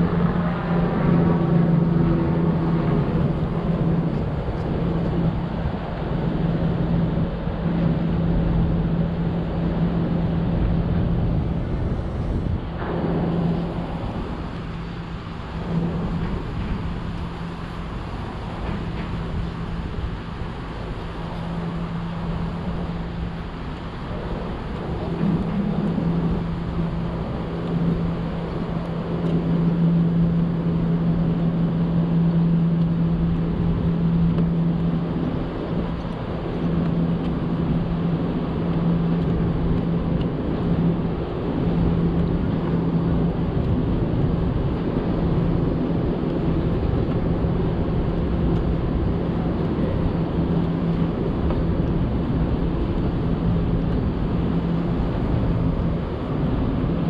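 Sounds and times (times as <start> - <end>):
distant traffic rumble: 0.0 - 57.0
low mechanical hum: 0.0 - 57.0.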